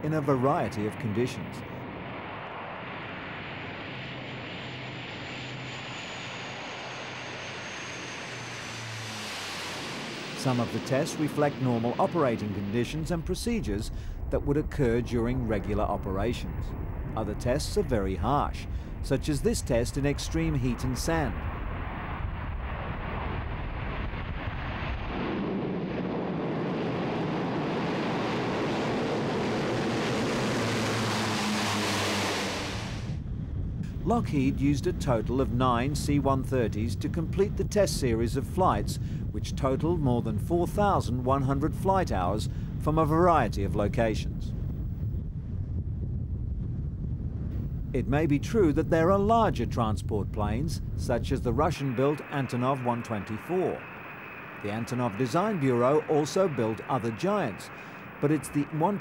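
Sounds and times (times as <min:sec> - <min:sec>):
high turbine whine: 0:00.0 - 0:43.6, 0:46.4 - 0:59.0
turboprop aircraft drone: 0:00.0 - 0:59.0.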